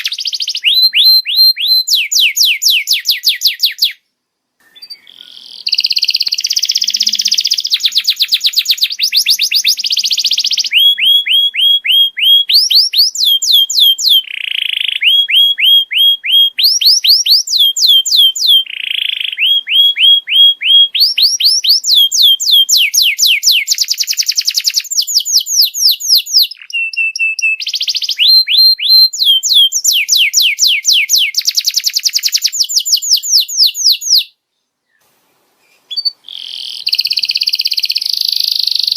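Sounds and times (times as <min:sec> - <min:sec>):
canary singing trills: 0:00.0 - 0:04.0, 0:04.6 - 0:38.9.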